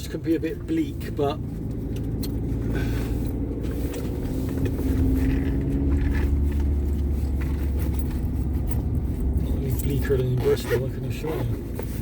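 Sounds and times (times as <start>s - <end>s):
engine and road noise rumble: 0.0s - 12.0s
faint engine hum: 0.0s - 12.0s.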